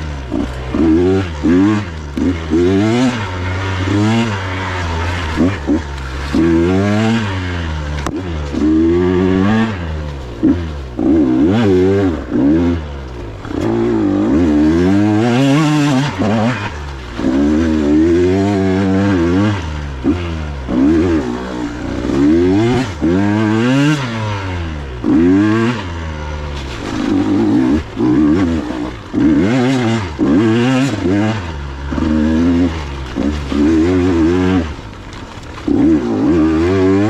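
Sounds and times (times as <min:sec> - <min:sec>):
two-stroke dirt bike engine revving: 0:00.0 - 0:37.0.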